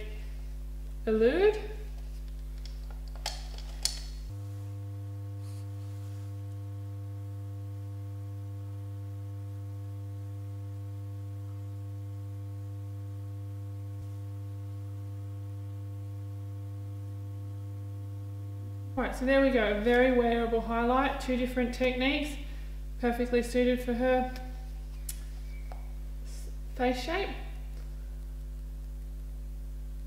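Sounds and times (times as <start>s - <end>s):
buzzy low hum: 0.0s - 30.0s.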